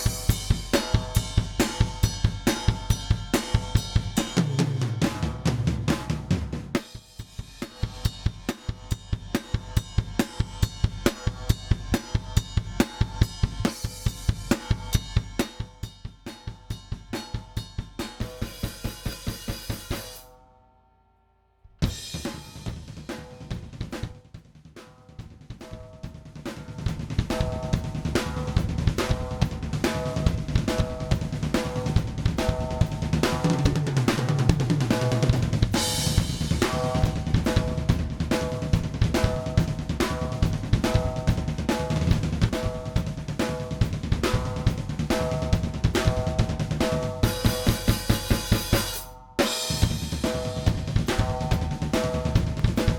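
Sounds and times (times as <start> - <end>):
acoustic drum kit groove: 0.0 - 20.3, 21.8 - 52.9.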